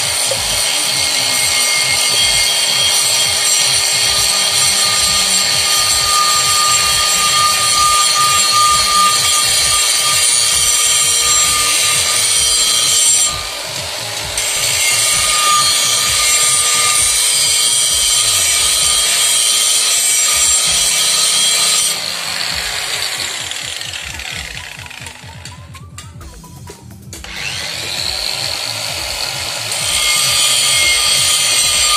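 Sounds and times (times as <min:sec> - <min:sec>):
angle grinder whining: 0:00.0 - 0:25.8, 0:27.2 - 0:31.9.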